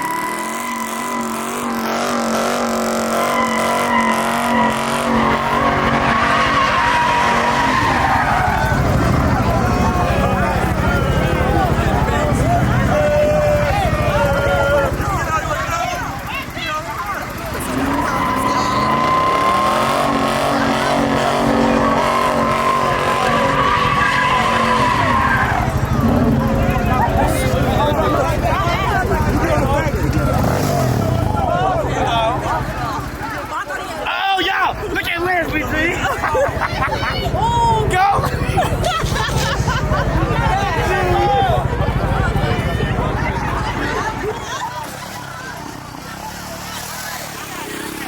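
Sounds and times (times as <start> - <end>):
car engine running hard: 0.0 - 48.0
car tyres squealing: 0.0 - 48.0.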